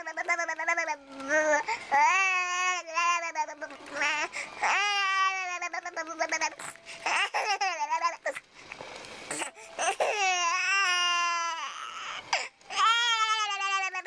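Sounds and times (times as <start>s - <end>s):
baby whiny crying: 0.0s - 8.4s, 9.3s - 14.0s.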